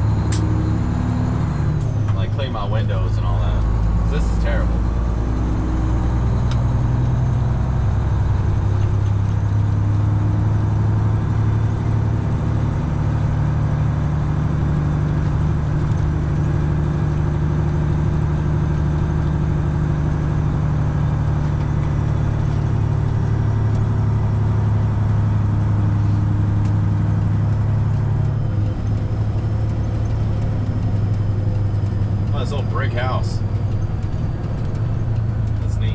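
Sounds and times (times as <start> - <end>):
truck diesel engine droning: 0.0 - 35.9.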